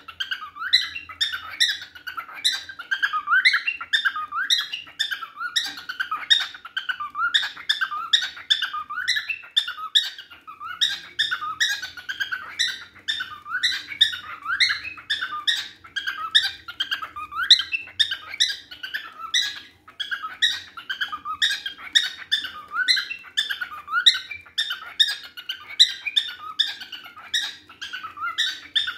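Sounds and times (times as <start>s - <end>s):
cockatiel whistling: 0.0s - 28.9s.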